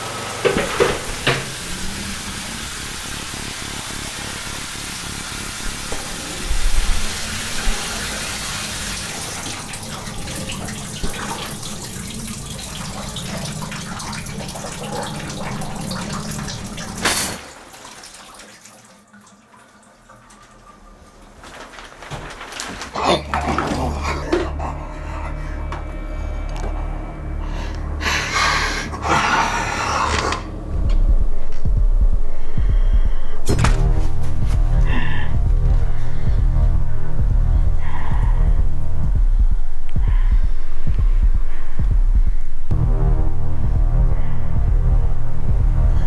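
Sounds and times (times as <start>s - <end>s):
shower water running: 0.0s - 46.0s.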